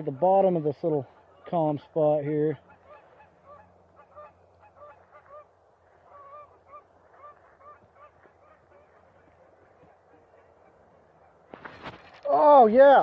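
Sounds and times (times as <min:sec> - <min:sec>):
geese honking: 0:00.0 - 0:11.5.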